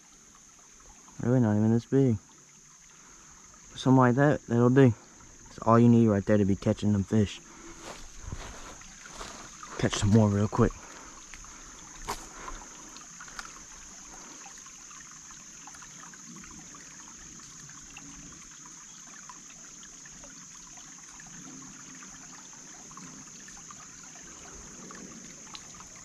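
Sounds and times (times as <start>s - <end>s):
creek water trickling: 0.0s - 26.0s.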